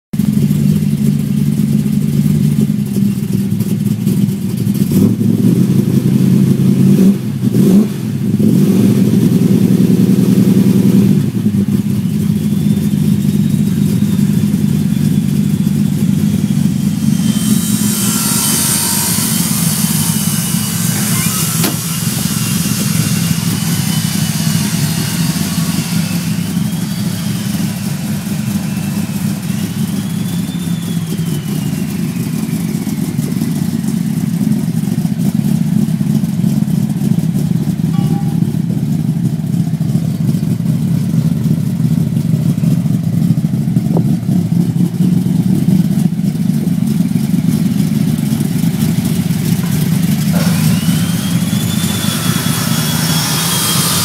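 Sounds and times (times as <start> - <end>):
car engine revving and idling: 0.2 - 54.0.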